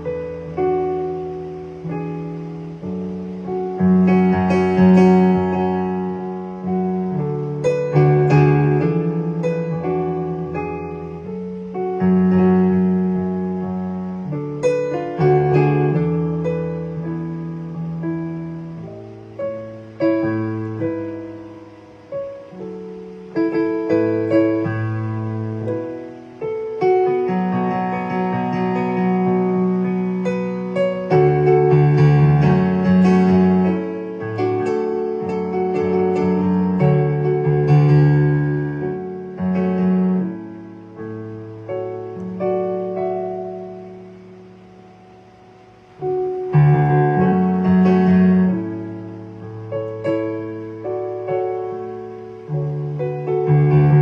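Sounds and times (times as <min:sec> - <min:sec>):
solo piano melody: 0:00.0 - 0:54.0.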